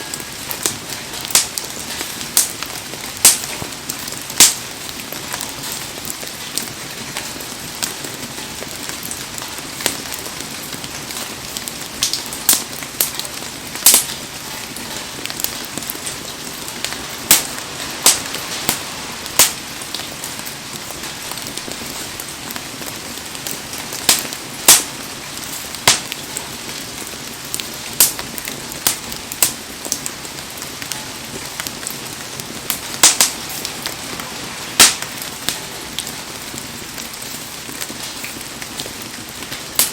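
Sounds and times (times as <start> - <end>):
bonfire crackling and popping: 0.0 - 39.9
heavy rain hiss: 0.0 - 39.9.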